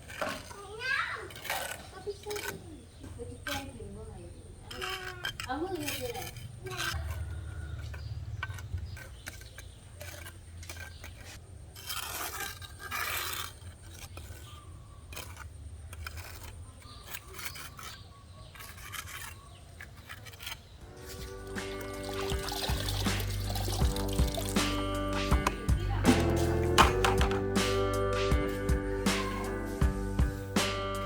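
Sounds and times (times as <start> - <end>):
scraping and rubbing on bricks: 0.0 - 27.6.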